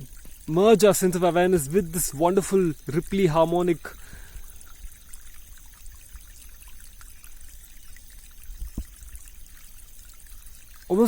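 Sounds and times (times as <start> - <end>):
stream rippling and bubbling: 0.0 - 11.0.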